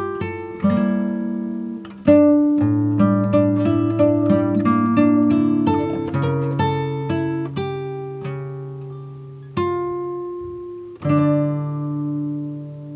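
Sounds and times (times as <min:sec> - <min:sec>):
acoustic guitar plucking and strumming: 0:00.0 - 0:12.9.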